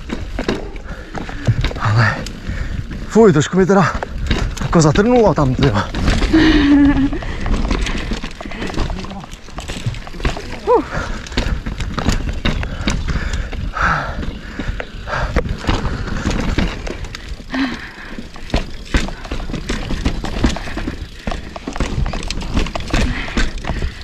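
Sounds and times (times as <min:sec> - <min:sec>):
bike clicks and rattles: 0:00.0 - 0:24.0
bike tyres rumbling over stone: 0:00.0 - 0:24.0.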